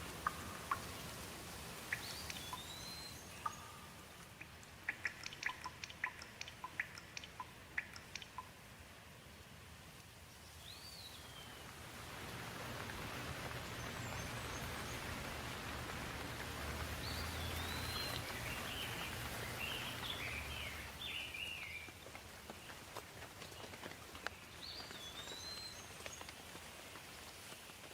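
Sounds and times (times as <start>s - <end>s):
birds chirping: 0.0s - 8.5s, 10.4s - 26.6s
rain falling: 0.0s - 27.9s.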